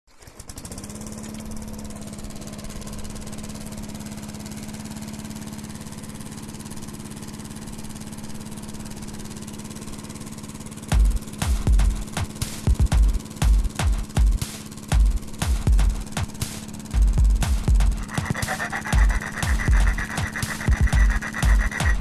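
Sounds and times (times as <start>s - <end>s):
lawnmower engine running: 0.1s - 22.0s.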